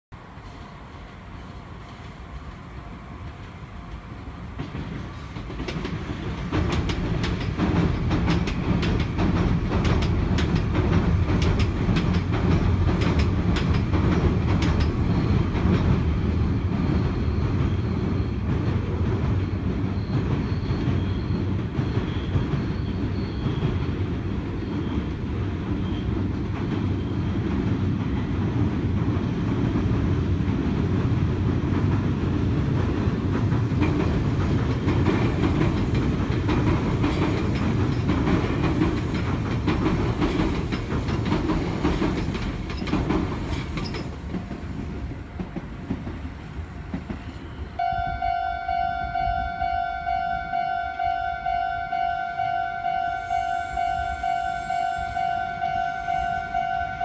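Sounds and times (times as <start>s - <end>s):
trains rumbling across steel bridge: 0.1s - 57.0s.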